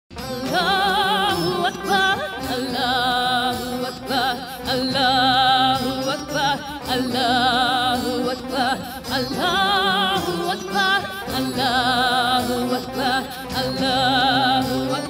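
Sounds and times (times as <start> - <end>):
woman singing with vibrato: 0.2 - 15.0.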